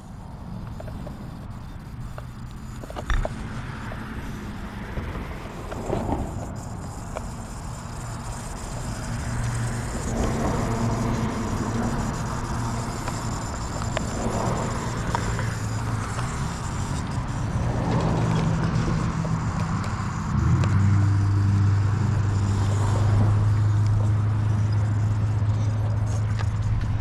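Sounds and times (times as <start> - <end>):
model helicopter rotor hum: 0.0 - 27.0.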